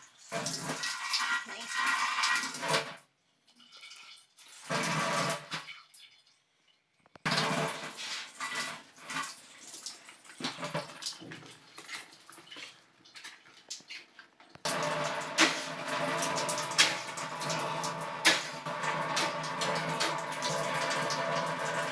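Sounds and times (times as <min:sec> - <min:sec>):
water running and splashing: 0:00.0 - 0:06.4, 0:07.2 - 0:21.9.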